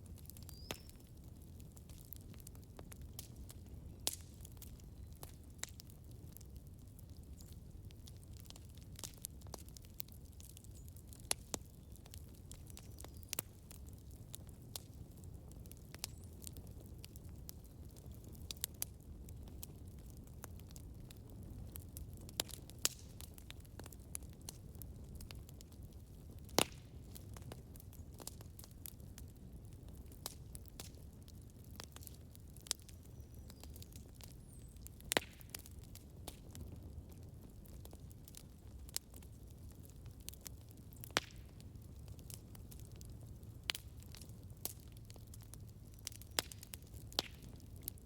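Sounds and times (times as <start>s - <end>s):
burning wood crackling and popping: 0.0s - 48.0s
campfire flames rumbling: 0.0s - 48.0s.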